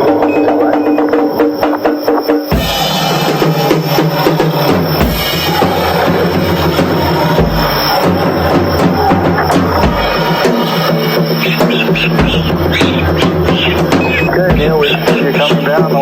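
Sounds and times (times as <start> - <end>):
drum kit solo: 0.0 - 16.0.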